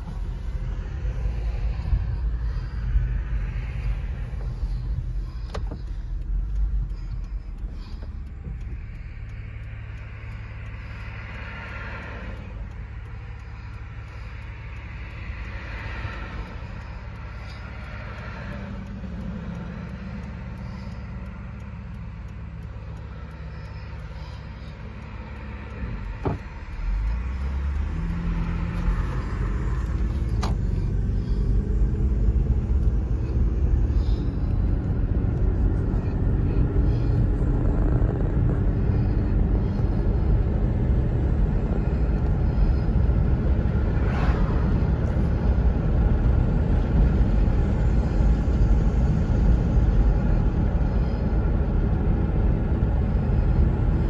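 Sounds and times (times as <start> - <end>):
car accelerating: 0.0 - 54.0
car engine idling: 0.0 - 54.0
passing traffic: 0.0 - 54.0
road noise: 0.0 - 54.0.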